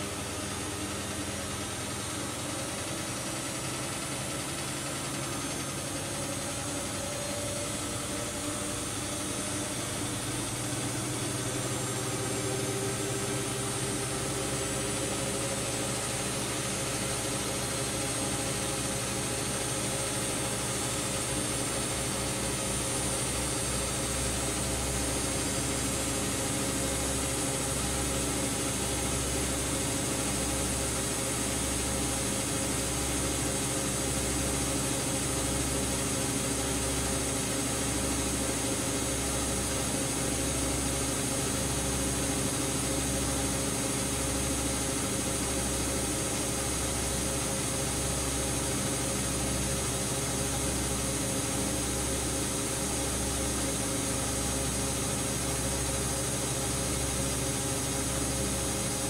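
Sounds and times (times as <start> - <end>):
washing machines running: 0.0 - 59.0.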